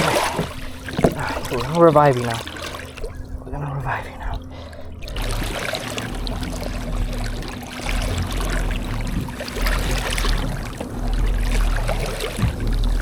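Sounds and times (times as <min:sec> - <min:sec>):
steady low hum: 0:00.0 - 0:13.0
water splashing against a boat: 0:00.0 - 0:13.0.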